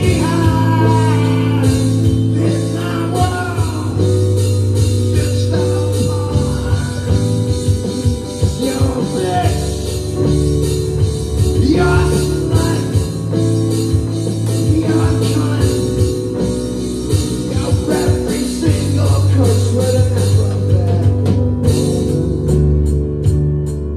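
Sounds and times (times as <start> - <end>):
man singing: 0.0 - 10.8, 11.4 - 23.3
drum kit steady beat: 0.0 - 23.9
guitar: 0.0 - 23.9
keyboard: 0.0 - 23.9.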